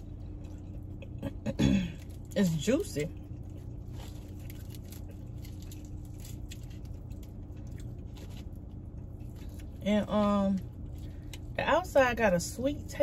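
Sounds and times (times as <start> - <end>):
chewing crispy chicken: 0.0 - 11.6
car air conditioning hum: 0.0 - 13.0.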